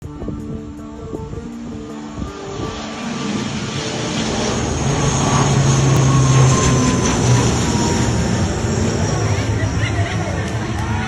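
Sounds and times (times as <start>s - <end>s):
turboprop engine drone: 0.0s - 11.0s
high whine dropping in pitch: 0.5s - 10.3s.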